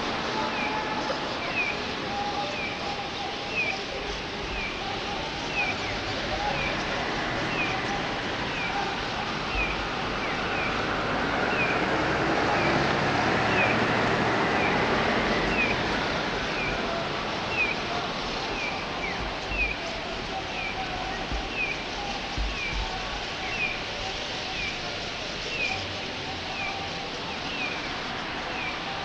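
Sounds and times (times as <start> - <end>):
flock of starlings chattering: 0.0 - 29.0.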